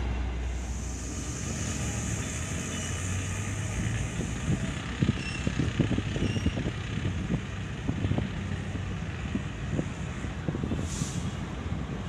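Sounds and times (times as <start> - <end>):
locomotive engine rumble: 0.0 - 12.0.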